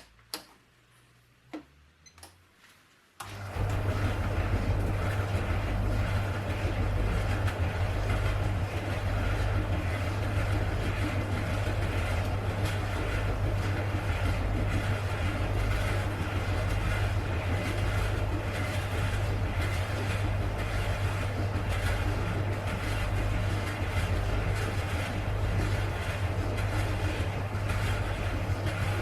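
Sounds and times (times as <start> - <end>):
tumble dryer humming: 3.2 - 29.0.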